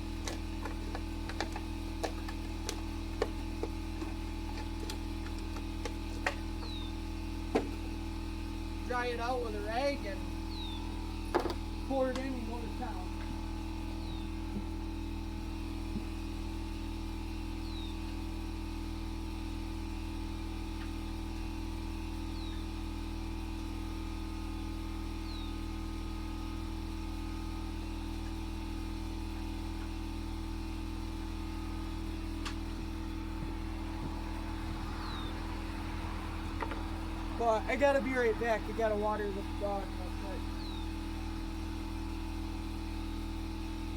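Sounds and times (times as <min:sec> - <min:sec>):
low mechanical motor hum: 0:00.0 - 0:43.9.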